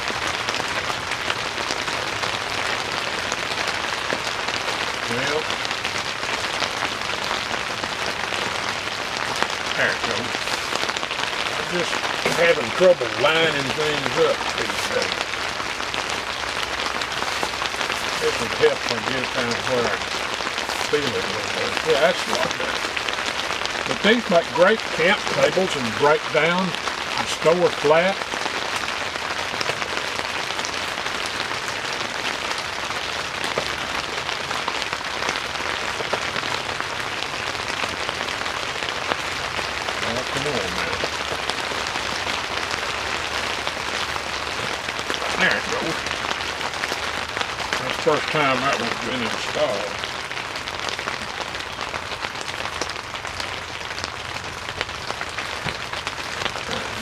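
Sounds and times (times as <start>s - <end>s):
rain pattering on a tent: 0.0s - 57.0s.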